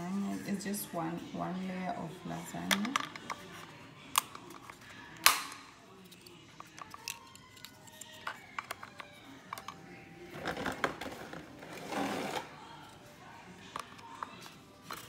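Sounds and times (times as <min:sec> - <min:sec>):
scraping and handling noise: 0:02.3 - 0:15.0.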